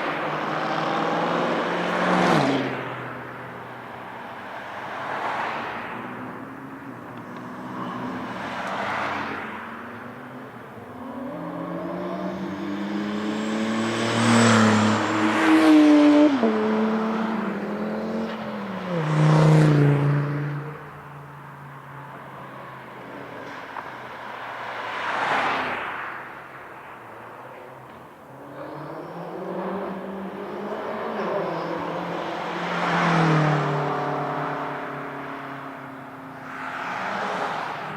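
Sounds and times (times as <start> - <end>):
race cars passing at speed: 0.0 - 37.9.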